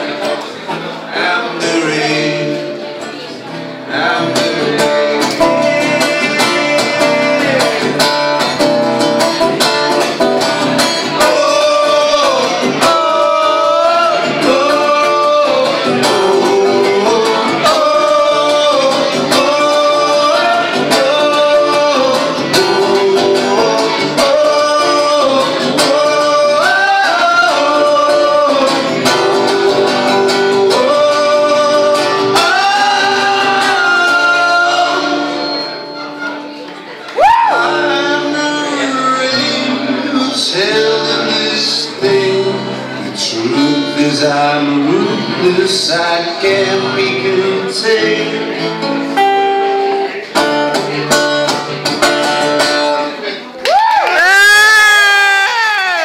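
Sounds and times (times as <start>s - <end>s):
country-rock band music: 0.0s - 53.6s.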